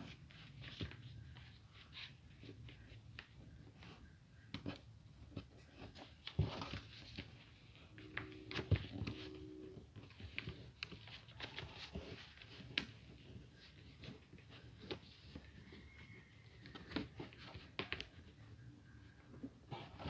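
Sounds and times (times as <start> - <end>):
paper rustling and creasing: 0.0 - 20.0.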